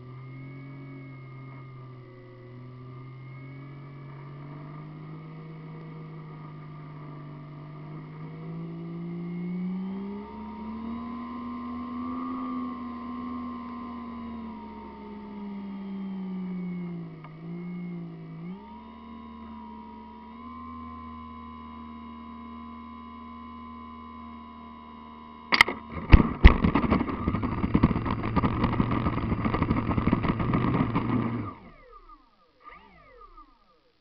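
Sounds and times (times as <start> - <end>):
model airplane motor humming: 0.0 - 34.0.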